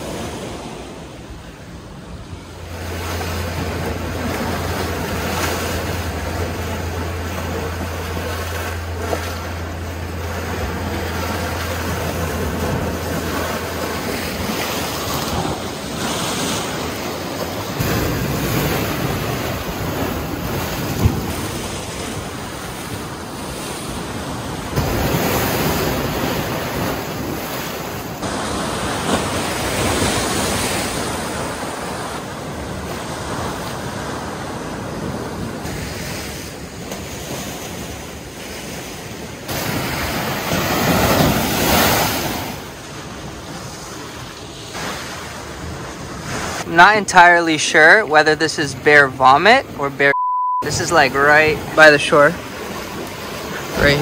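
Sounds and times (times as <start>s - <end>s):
waves washing over rocks: 0.0s - 54.0s.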